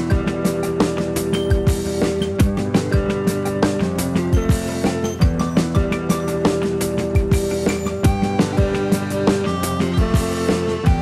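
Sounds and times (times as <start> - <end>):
drum beat with held chords: 0.0 - 11.0.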